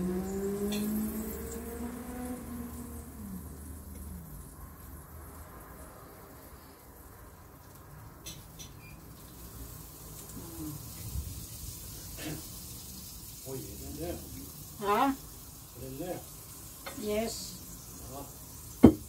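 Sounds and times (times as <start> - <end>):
food sizzling on grill: 0.0 - 19.0.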